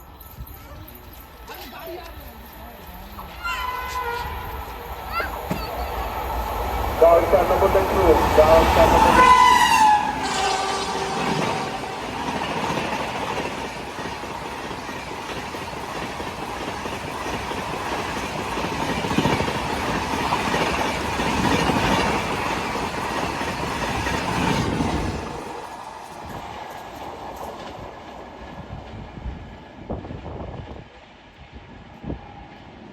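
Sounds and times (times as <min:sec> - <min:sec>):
train rumbling and clattering: 0:00.0 - 0:32.9.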